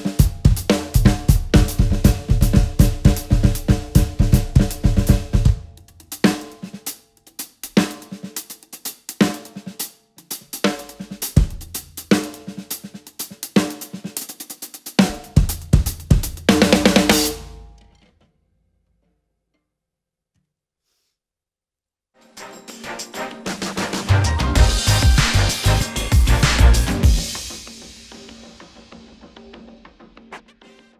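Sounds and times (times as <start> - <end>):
drum kit playing: 0.0 - 17.7, 22.4 - 30.4.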